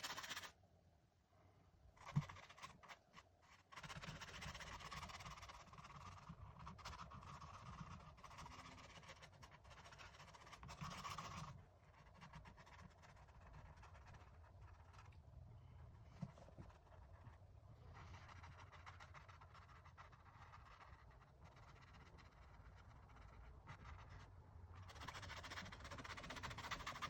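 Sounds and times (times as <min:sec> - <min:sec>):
paintbrush scratching on canvas: 0:00.0 - 0:00.5, 0:02.0 - 0:15.2, 0:16.0 - 0:27.0.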